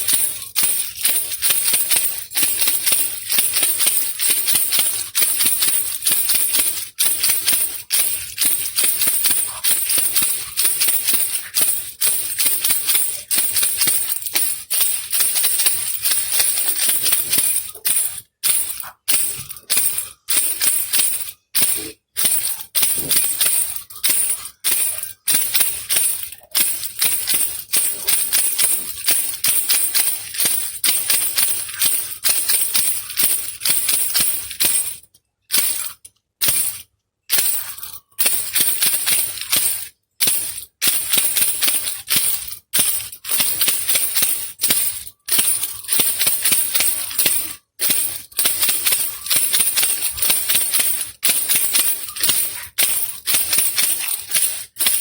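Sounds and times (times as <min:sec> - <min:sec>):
baby rattle shaken: 0:00.0 - 0:55.0.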